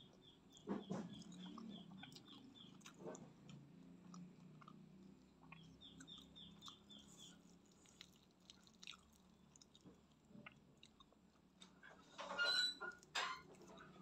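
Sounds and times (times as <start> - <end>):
close chewing: 0.0 - 11.8.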